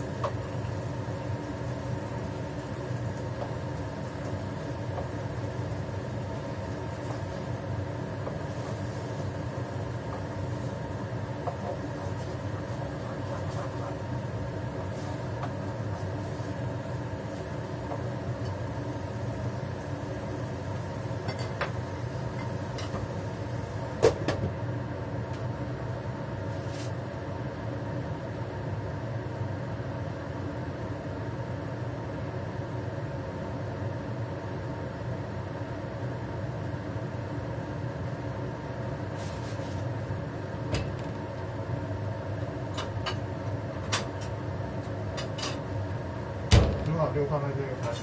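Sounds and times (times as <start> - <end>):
steady motor hum: 0.0 - 48.0.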